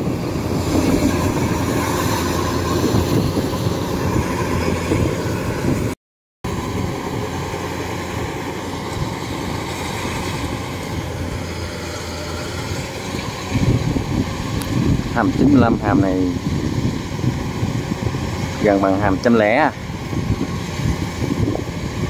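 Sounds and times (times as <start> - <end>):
combine harvester engine running: 0.0 - 22.0.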